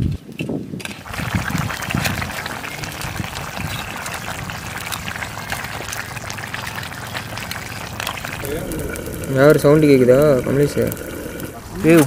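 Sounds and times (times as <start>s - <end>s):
thick gravy bubbling: 1.0s - 12.0s
ladle stirring: 1.9s - 11.8s.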